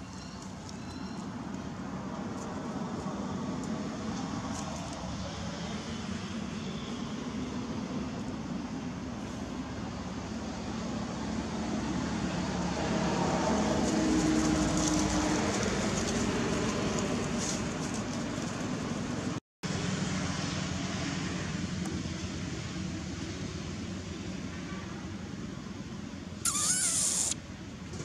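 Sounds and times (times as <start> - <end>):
outdoor background hum: 0.0 - 28.0.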